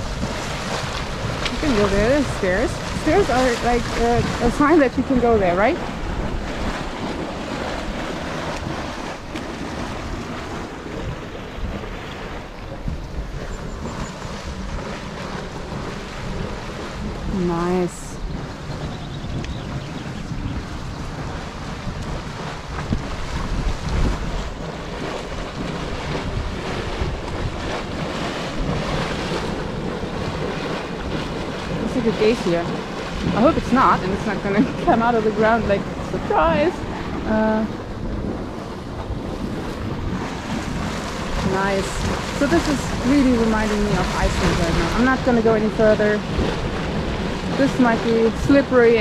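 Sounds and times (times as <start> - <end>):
hissing boiling hot spring: 0.0 - 49.0
wind buffeting microphone: 0.0 - 49.0.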